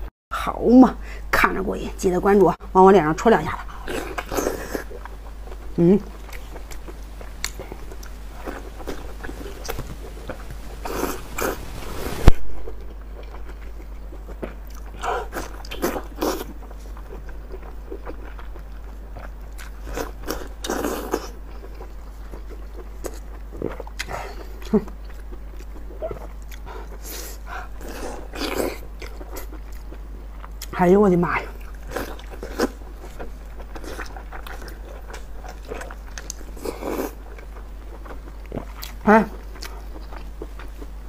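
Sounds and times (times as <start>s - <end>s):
person chewing wet food: 3.5s - 41.0s.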